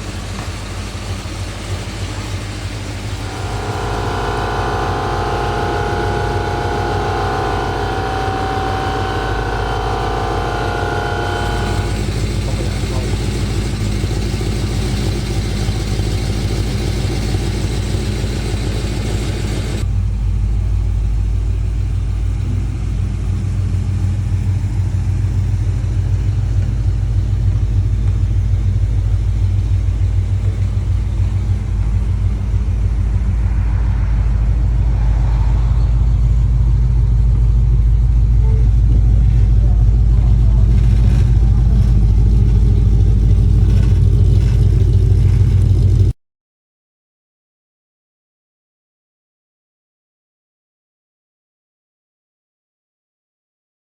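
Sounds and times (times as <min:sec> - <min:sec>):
car engine idling: 0:00.0 - 0:46.1.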